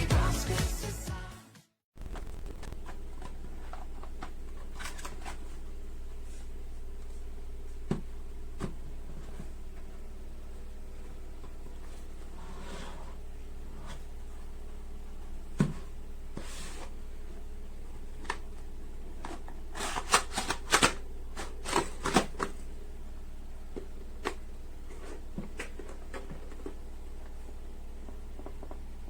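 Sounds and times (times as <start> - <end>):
low steady hum: 2.0 - 29.0.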